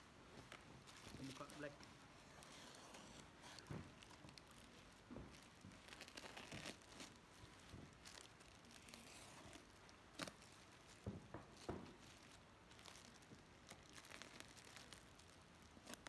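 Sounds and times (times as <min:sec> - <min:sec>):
wrapping crinkling and tearing: 0:00.3 - 0:16.0.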